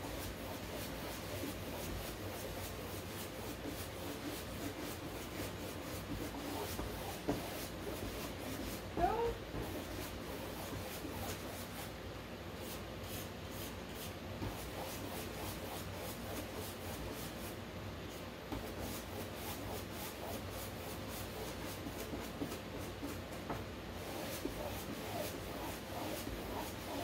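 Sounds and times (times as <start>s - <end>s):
paintbrush strokes on canvas: 0.0s - 12.0s, 12.6s - 27.0s.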